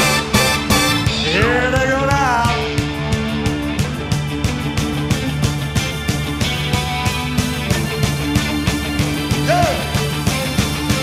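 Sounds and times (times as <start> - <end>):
bass line: 0.0 - 11.0
live rock band playing: 0.0 - 11.0.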